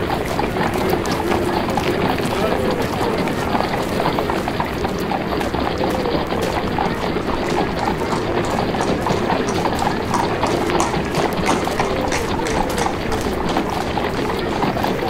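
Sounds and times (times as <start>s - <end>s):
horse hooves clip-clopping: 0.0s - 15.0s
murmur of crowd voices: 0.0s - 15.0s.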